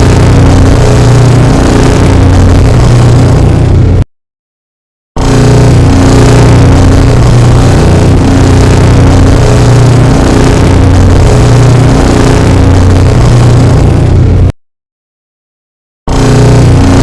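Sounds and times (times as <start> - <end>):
deep droning hum: 0.0 - 4.0, 5.2 - 14.5, 16.1 - 17.0
distorted boom roar: 0.0 - 4.1, 5.2 - 14.6, 16.1 - 17.0.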